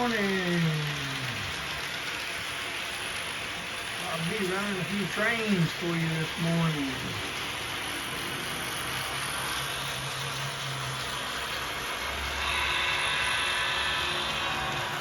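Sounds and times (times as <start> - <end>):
model train motor and wheels: 0.0 - 15.0.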